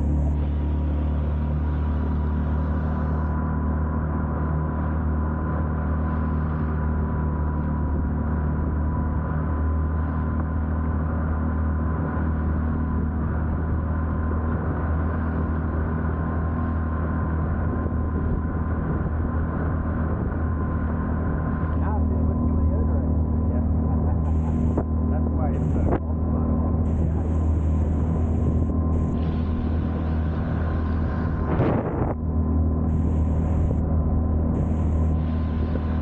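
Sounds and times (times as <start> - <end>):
boat engine droning: 0.0 - 36.0
faint steady whine: 0.0 - 36.0.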